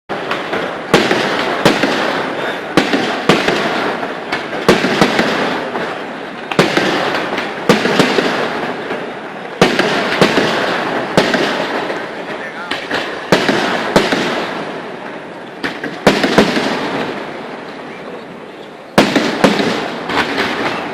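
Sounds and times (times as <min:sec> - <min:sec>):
dense firework crackle: 0:00.1 - 0:20.9
firework shells bursting: 0:00.1 - 0:20.9.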